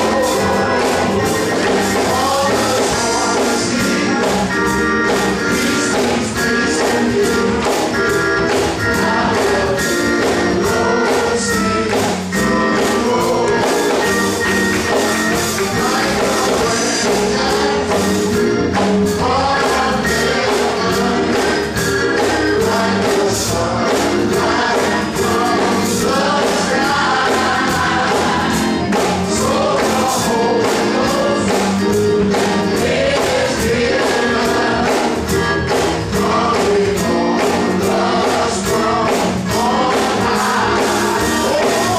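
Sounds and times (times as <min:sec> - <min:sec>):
band accompaniment: 0:00.0 - 0:41.9
choir singing: 0:00.0 - 0:41.9
drums beat: 0:00.0 - 0:41.9.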